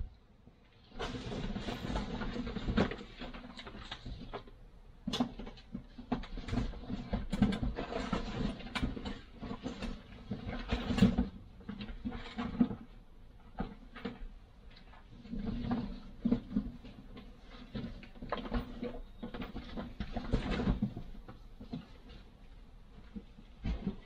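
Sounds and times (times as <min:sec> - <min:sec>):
objects rustling and clicking: 0:00.9 - 0:24.0.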